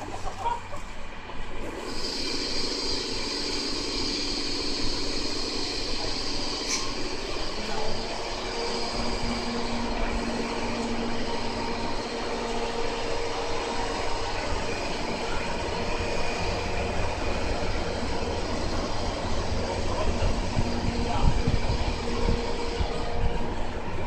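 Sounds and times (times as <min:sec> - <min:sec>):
electrical hum and blower: 0:00.0 - 0:24.0.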